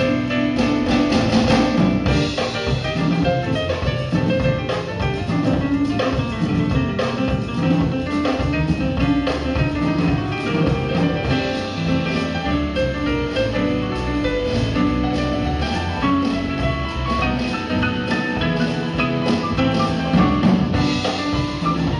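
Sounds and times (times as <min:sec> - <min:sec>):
band playing music: 0:00.0 - 0:21.9
drums keeping a beat: 0:00.0 - 0:21.9.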